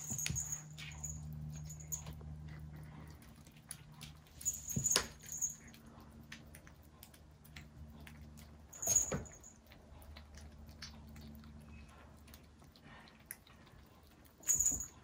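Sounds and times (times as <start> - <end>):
kittens crunching dry kibble: 0.0 - 15.0.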